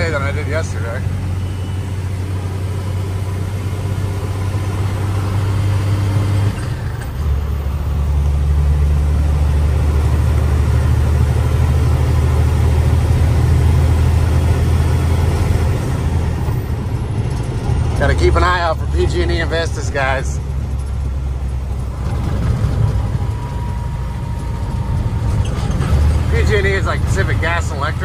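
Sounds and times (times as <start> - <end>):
truck diesel engine humming: 0.0 - 28.0.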